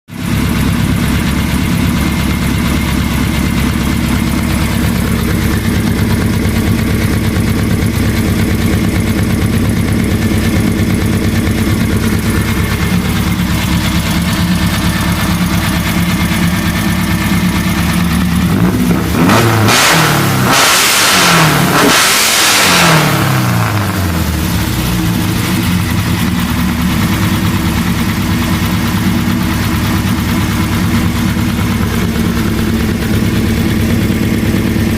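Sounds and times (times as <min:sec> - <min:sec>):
car engine idling and revving: 0:00.1 - 0:34.9.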